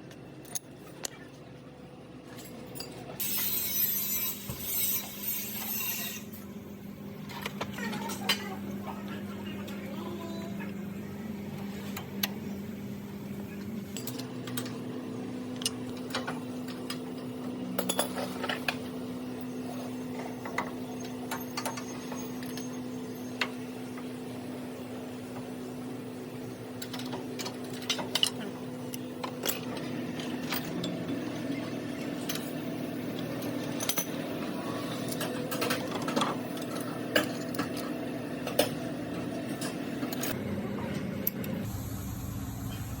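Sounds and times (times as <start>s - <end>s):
steady low hum: 8.5s - 43.0s.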